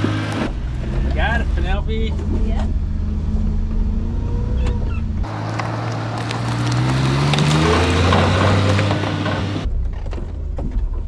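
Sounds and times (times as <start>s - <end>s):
truck engine droning: 0.0s - 10.5s.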